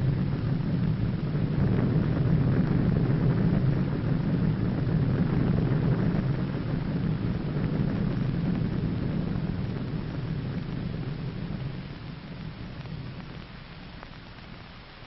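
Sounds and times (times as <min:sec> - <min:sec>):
underwater explosion deep rumble: 0:00.0 - 0:14.6.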